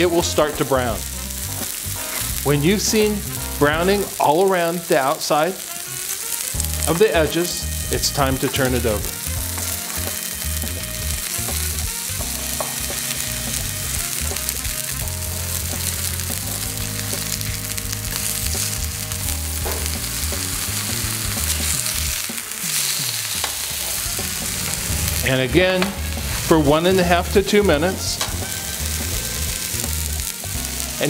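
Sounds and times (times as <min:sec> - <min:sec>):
fish sizzling in hot oil: 0:00.0 - 0:31.0.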